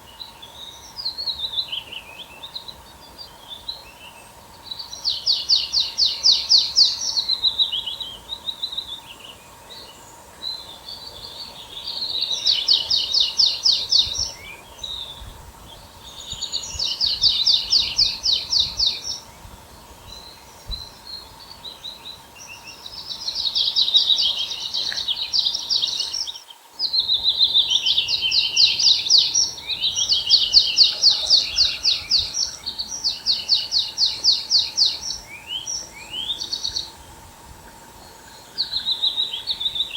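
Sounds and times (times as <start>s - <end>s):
faint steady hum: 0.0s - 39.9s
songbird trilling: 4.8s - 37.1s.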